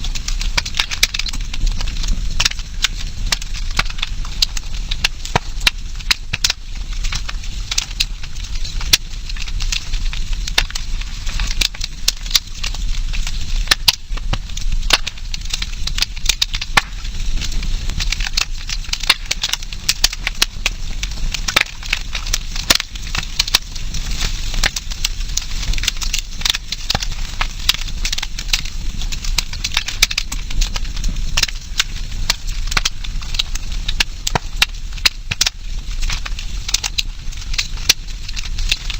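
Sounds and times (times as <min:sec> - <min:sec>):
campfire crackling and popping: 0:00.0 - 0:38.9
steady low rumble: 0:00.0 - 0:38.9.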